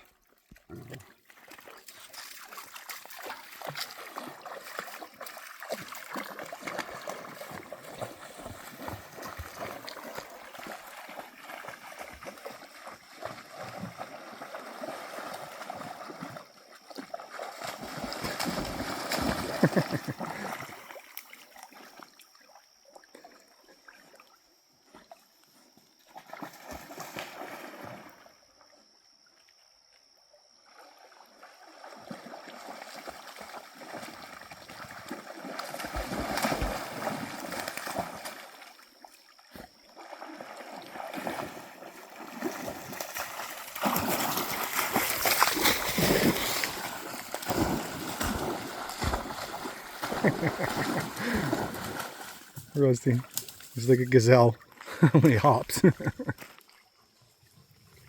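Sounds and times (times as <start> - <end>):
dogs splashing through water: 0.0 - 24.3, 26.1 - 28.3, 30.7 - 58.0.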